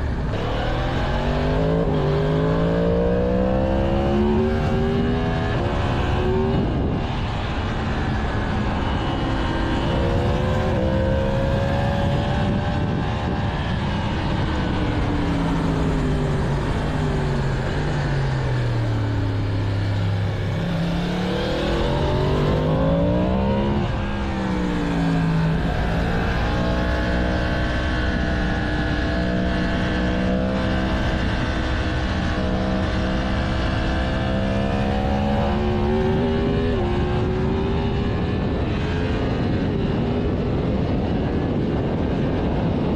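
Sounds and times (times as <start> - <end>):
motorcycle engine revving: 0.0 - 42.8
constant rushing noise: 0.0 - 42.9.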